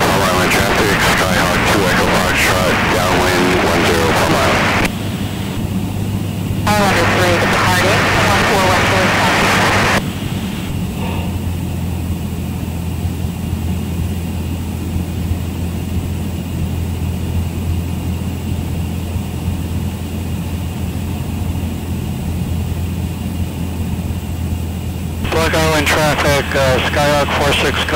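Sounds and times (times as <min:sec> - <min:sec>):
aircraft engine and propeller droning: 0:00.0 - 0:27.9.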